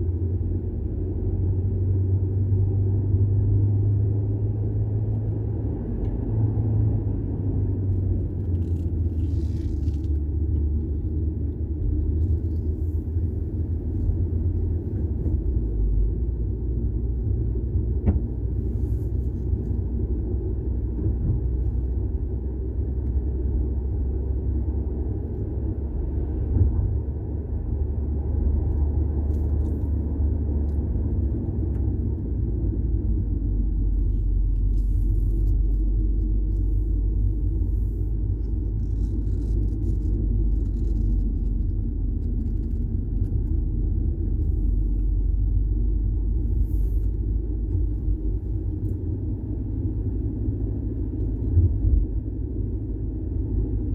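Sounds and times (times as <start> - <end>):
car engine low rumble: 0.0 - 53.9.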